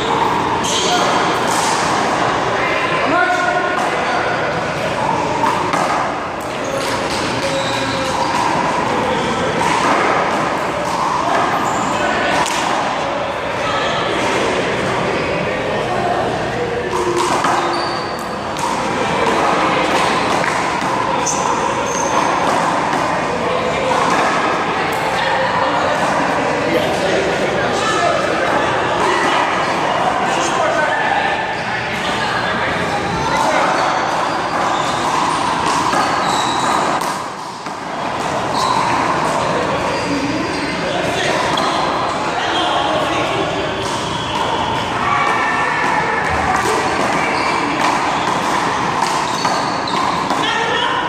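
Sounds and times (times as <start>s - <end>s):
background noise: 0.0s - 51.0s
steady background noise: 0.0s - 51.0s.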